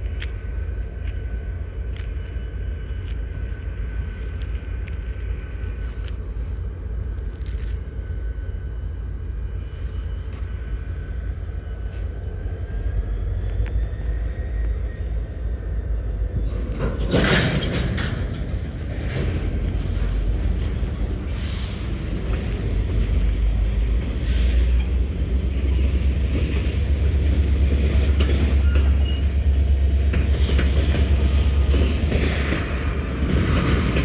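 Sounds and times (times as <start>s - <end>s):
faint high whine: 0.0s - 34.0s
train rumbling: 0.0s - 34.0s.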